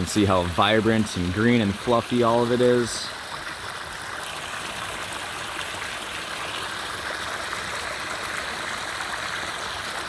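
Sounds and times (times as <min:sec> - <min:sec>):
water pouring over rocks: 0:00.0 - 0:10.0.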